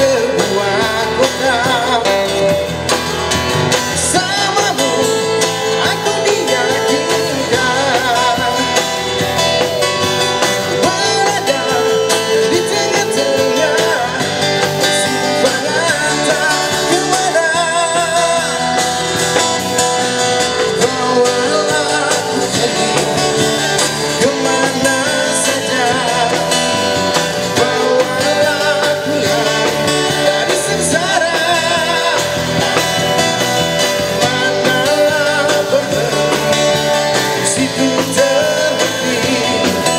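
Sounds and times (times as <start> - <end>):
acoustic guitar: 0.0 - 39.9
electric bass: 0.0 - 39.9
man singing into a microphone: 0.0 - 39.9.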